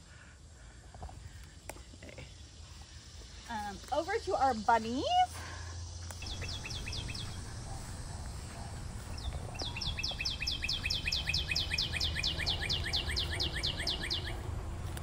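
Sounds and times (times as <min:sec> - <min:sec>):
songbird singing: 0:00.7 - 0:15.0.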